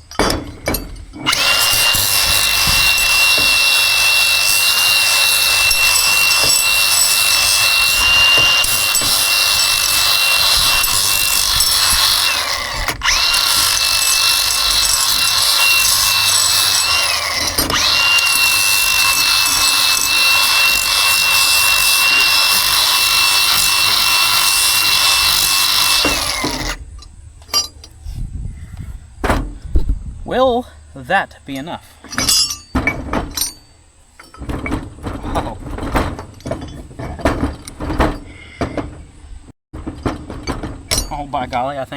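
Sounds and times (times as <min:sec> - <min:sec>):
grinder whining against metal: 0:00.0 - 0:28.0, 0:31.5 - 0:41.9.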